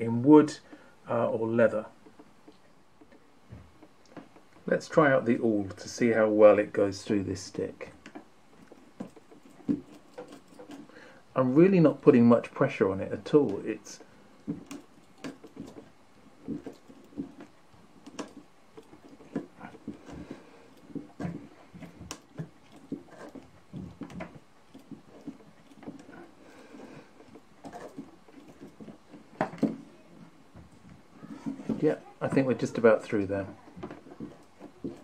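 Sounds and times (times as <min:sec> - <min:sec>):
awl creaking and scraping in wood: 0:00.0 - 0:35.0.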